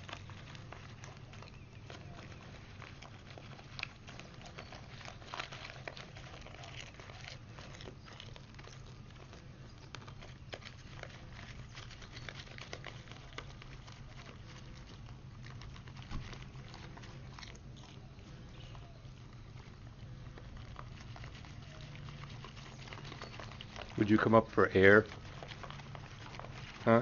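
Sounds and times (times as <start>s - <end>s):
deer crunching popcorn: 0.0s - 27.0s
paper crinkling: 0.0s - 27.0s.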